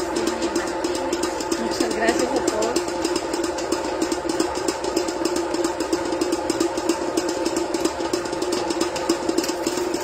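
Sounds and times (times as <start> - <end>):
stand mixer hum and rattle: 0.0 - 10.0.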